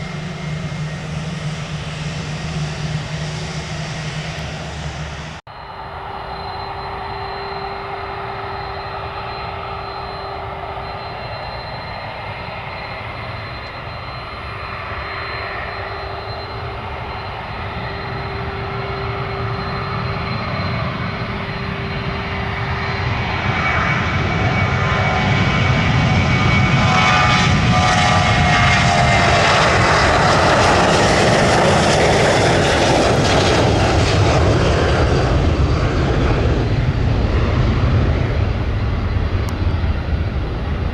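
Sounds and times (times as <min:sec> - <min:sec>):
airplane engines passing: 0:00.0 - 0:40.9.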